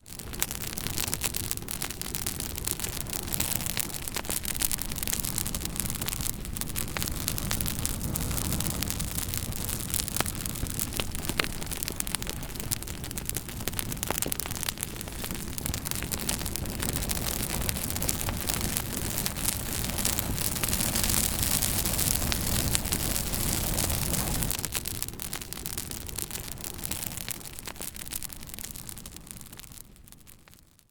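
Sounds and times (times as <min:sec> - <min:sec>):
low rumble of flames: 0:00.0 - 0:30.9
wood crackling and popping: 0:00.0 - 0:30.9.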